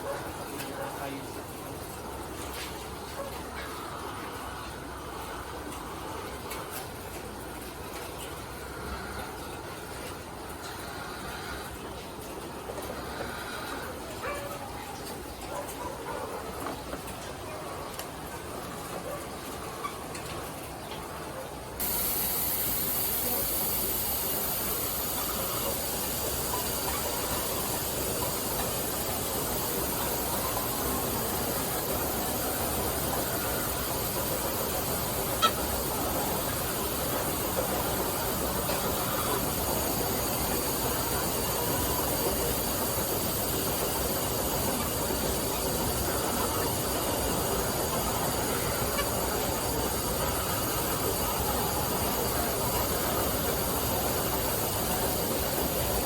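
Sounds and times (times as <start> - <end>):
constant machinery noise: 0.0 - 56.0
many hens calling: 0.0 - 56.0.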